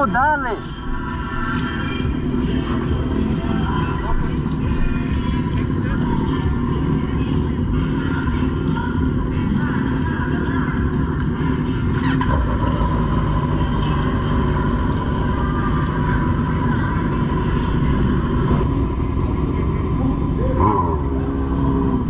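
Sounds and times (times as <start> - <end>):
motorcycle engine running: 0.0 - 22.0
road drone: 0.0 - 22.0.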